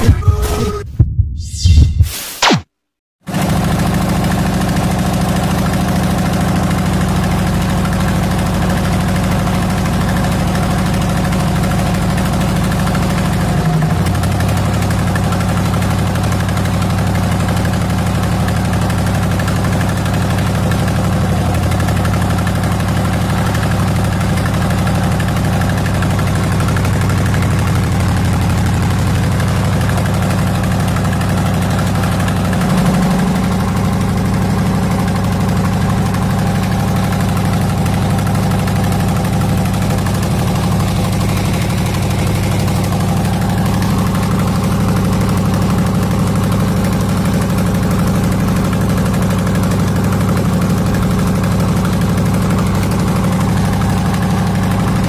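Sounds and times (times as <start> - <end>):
boat engine running: 3.3 - 55.0.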